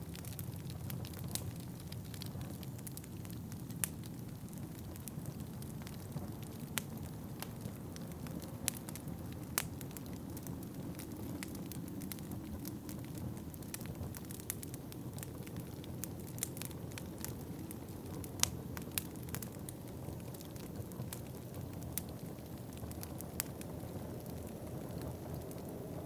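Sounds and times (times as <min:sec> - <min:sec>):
low rumble of fire: 0:00.0 - 0:26.0
wood fire crackling: 0:00.0 - 0:26.0.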